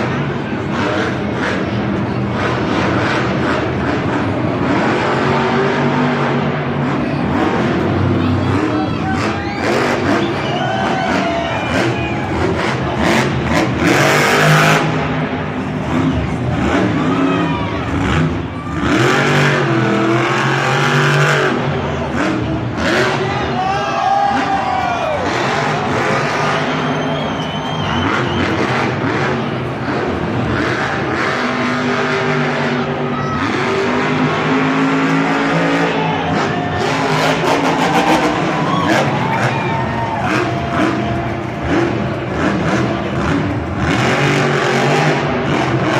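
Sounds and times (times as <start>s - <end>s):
monster truck engine revving: 0.0s - 45.9s.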